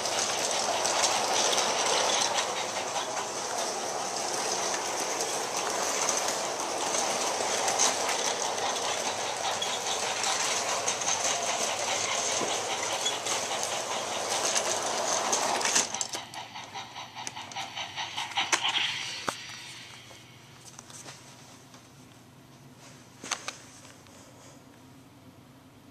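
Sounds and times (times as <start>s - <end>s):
model train whirring and rattling: 0.0s - 20.9s.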